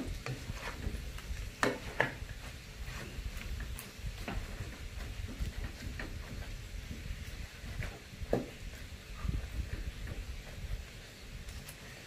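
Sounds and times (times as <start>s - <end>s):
pan cooking on stove: 0.0s - 12.0s.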